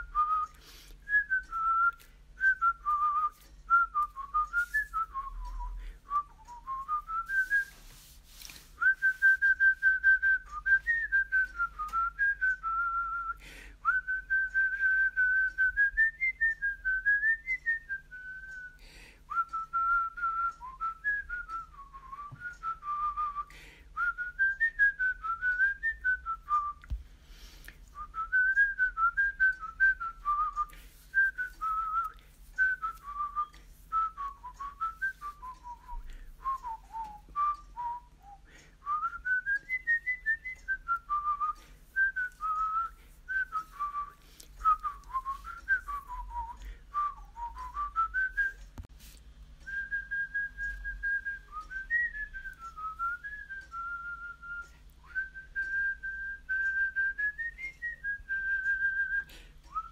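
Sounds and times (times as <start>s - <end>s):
person whistling melody: 0.0s - 48.9s, 49.6s - 59.9s.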